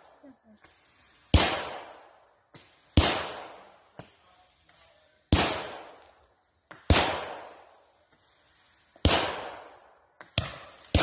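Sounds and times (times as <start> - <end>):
faint firework pops: 0.6 - 8.3, 8.9 - 11.0
fireworks bangs echoing: 1.2 - 11.0.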